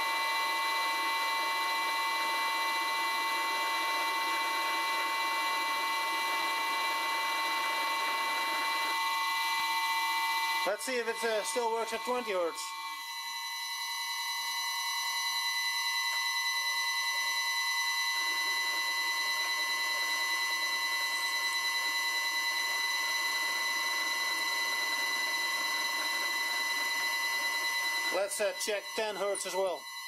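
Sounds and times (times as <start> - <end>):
drill boring into steel: 0.0 - 30.0
high-pitched electronic motor whine: 0.0 - 30.0.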